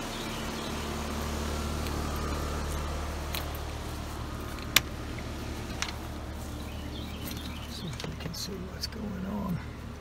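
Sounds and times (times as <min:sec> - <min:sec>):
heat pump humming: 0:00.0 - 0:10.0.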